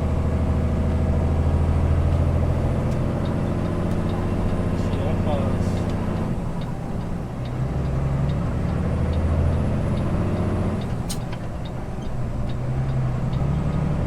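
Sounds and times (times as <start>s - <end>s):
diesel truck engine drone: 0.0s - 14.0s.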